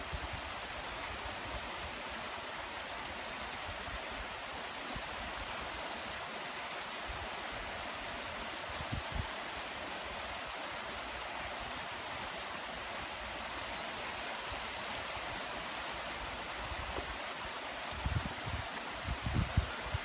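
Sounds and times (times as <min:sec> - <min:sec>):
light rain on leaves: 0:00.0 - 0:20.0.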